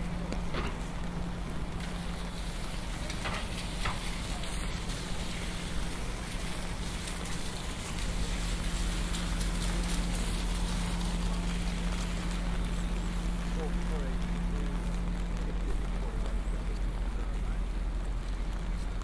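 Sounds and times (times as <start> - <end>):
rain hiss: 0.0 - 19.0
traffic rumble: 0.0 - 19.0.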